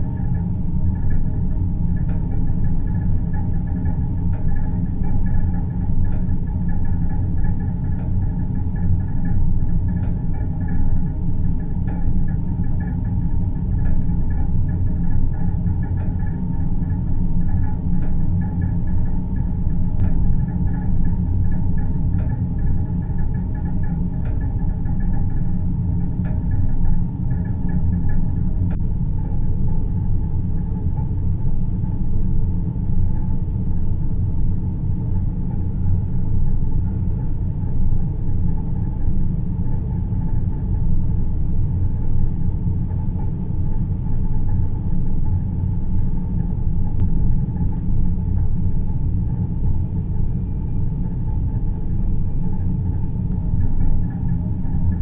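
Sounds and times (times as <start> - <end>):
deep rumbling drone: 0.0 - 55.0
faint high hum: 0.0 - 55.0.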